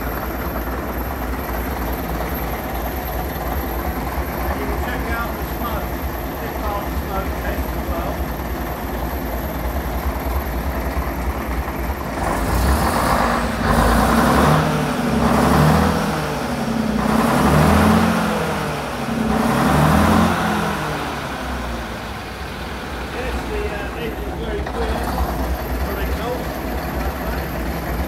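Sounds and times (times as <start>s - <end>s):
diesel bus engine idling and revving: 0.0s - 28.0s.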